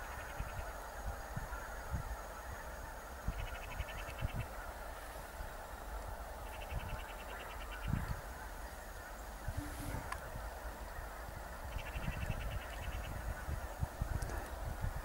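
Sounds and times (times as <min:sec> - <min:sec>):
flock of geese calling: 0:00.0 - 0:15.0
wind rumbling on microphone: 0:00.0 - 0:15.0.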